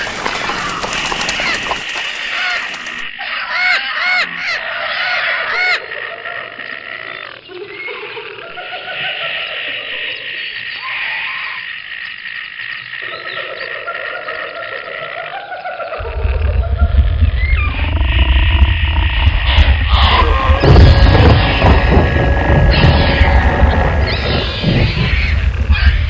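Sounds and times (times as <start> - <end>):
animal calls: 0.0 - 26.0
chorus of animal calling: 0.0 - 26.0.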